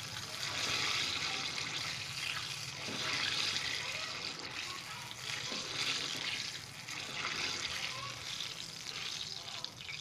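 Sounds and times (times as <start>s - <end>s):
pie sizzling in a pan: 0.0s - 10.0s.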